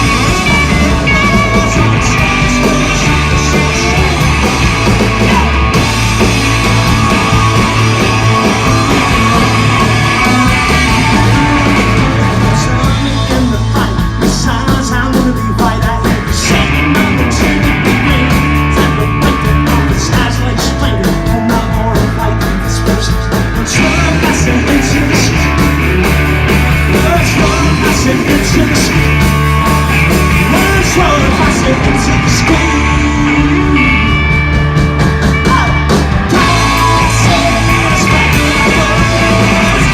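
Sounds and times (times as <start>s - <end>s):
person singing: 0.0s - 26.3s, 26.9s - 29.2s, 30.2s - 34.5s, 35.3s - 39.9s
punk rock band playing: 0.0s - 39.9s.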